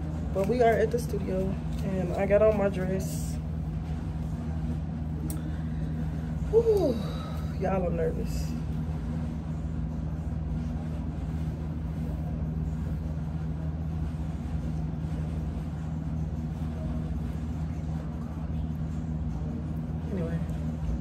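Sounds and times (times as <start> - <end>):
low machine hum with hiss: 0.0 - 21.0.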